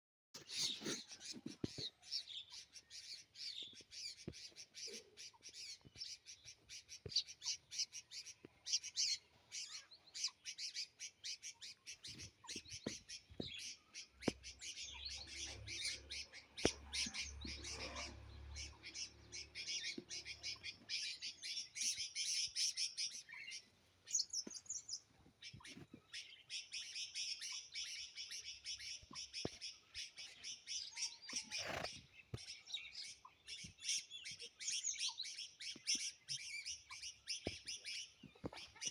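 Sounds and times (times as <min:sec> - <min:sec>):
small birds chirping chorus: 0:00.4 - 0:38.9.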